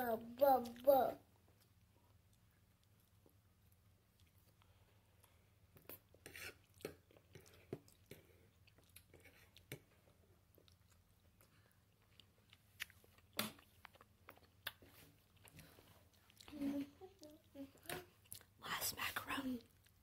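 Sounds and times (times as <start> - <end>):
low room hum: 0.0 - 20.0
chewing with wet mouth clicks: 1.6 - 16.6, 17.2 - 18.6.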